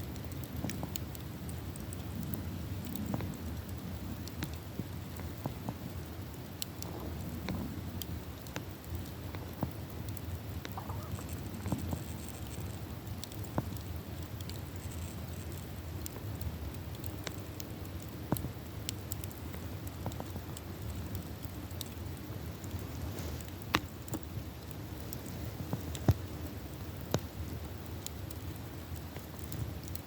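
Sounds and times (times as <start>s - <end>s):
campfire crackling and popping: 0.0s - 30.0s
low steady fire rumble: 0.0s - 30.0s.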